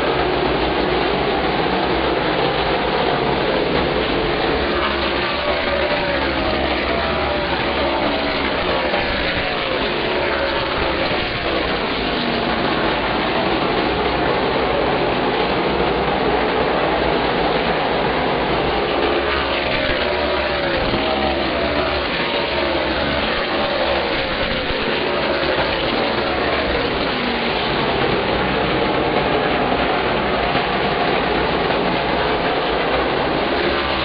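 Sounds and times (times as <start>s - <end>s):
stock car engines racing: 0.0s - 34.0s.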